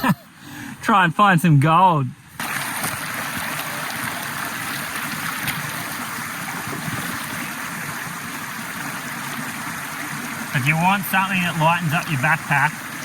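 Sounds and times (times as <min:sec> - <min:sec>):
creek water flowing: 0:02.3 - 0:13.0.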